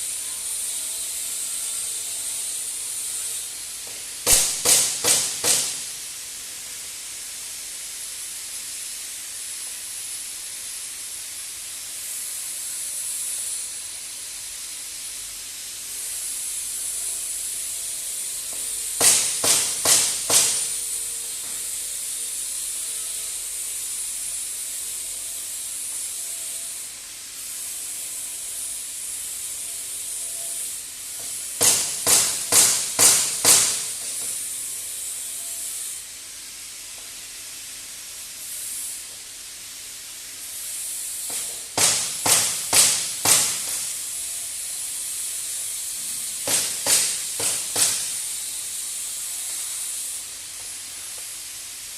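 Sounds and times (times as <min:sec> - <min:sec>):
welding arc hissing: 0:00.0 - 0:51.9.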